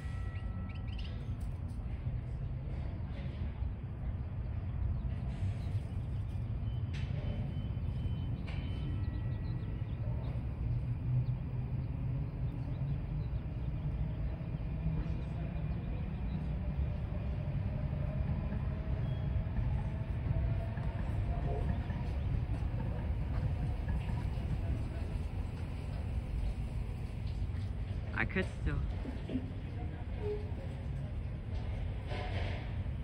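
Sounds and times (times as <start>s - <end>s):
distant train rumble: 0.0s - 33.0s.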